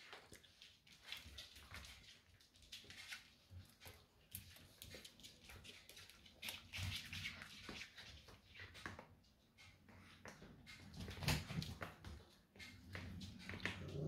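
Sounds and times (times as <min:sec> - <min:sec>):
dogs scuffling on hard floor: 0:00.0 - 0:14.0.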